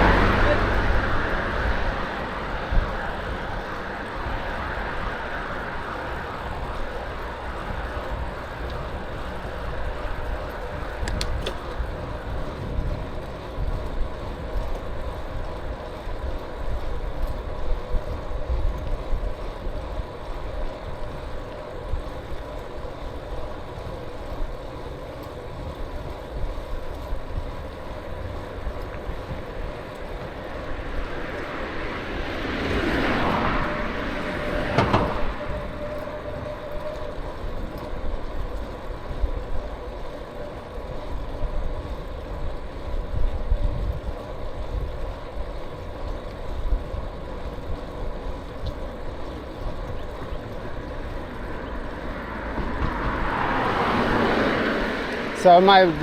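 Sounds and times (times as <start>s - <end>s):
passing vehicle: 0.0s - 56.0s
road noise from bicycle: 0.0s - 56.0s
wind buffeting microphone: 0.0s - 56.0s.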